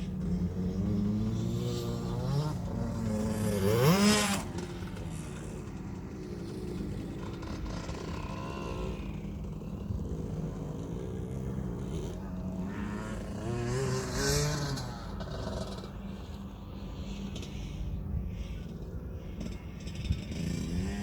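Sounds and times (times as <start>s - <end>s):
two-stroke motocross engine revving: 0.0s - 16.4s, 19.2s - 21.0s.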